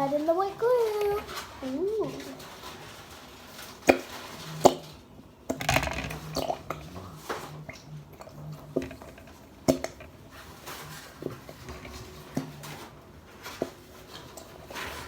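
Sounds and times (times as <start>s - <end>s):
bowl and utensils clinking: 0.0s - 15.0s.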